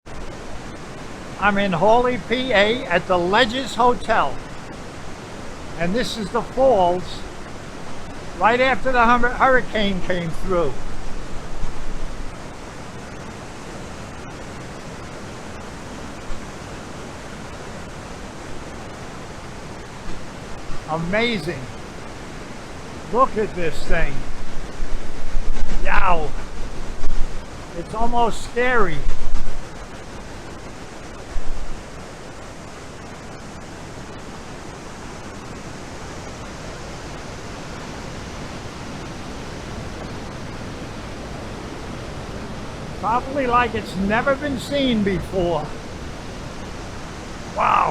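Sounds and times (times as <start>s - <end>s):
waterfall roaring: 0.1s - 47.9s.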